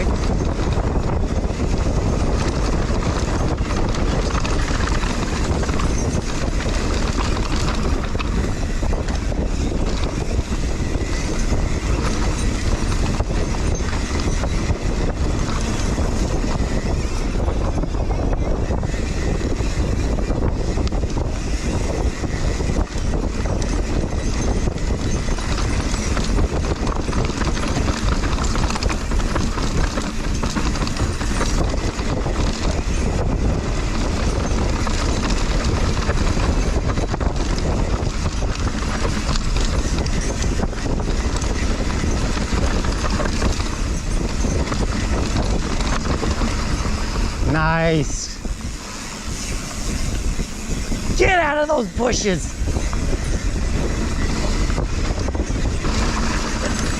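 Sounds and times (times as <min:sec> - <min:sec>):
bike tyres on dirt trail: 0:00.0 - 0:56.9
chain and frame rattling: 0:00.0 - 0:56.9
wind buffeting microphone: 0:00.0 - 0:56.9.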